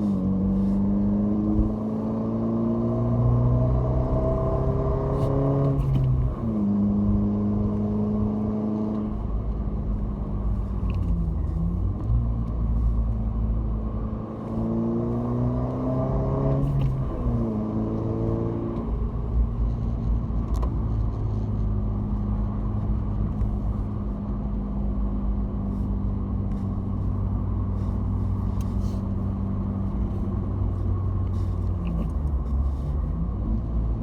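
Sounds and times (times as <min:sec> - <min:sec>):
car engine droning in cabin: 0:00.0 - 0:34.0.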